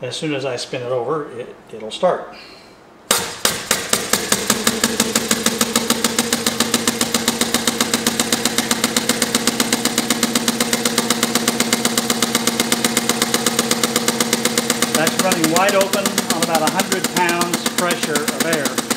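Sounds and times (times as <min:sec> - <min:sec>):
steady hum: 0:02.3 - 0:18.9
model air engine pulses: 0:03.6 - 0:18.9.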